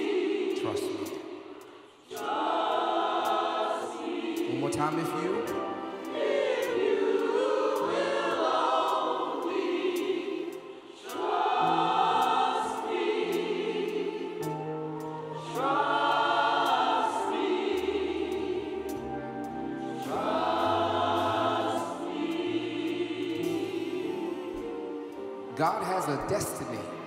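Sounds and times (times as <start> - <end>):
church choir singing: 0.0 - 27.0.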